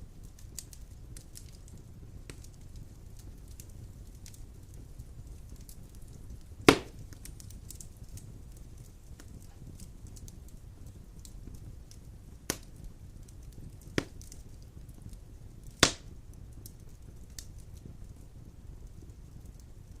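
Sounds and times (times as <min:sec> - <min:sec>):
burning logs crackling and popping: 0:00.0 - 0:20.0
fire flames rumbling: 0:00.0 - 0:20.0.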